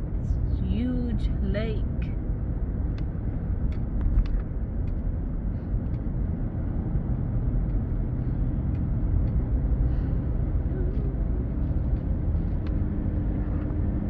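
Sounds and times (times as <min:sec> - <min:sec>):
car interior road rumble: 0:00.0 - 0:14.0.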